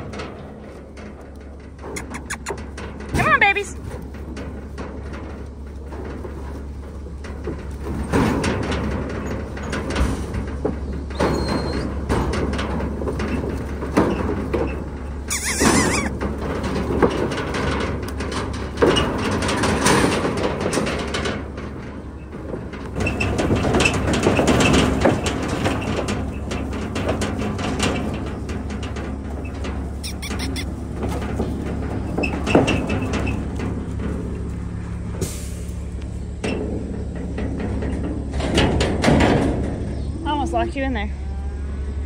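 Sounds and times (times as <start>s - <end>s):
hooves clattering on trailer floor: 0.0s - 41.3s
trailer panels and gate rattling: 0.0s - 41.3s.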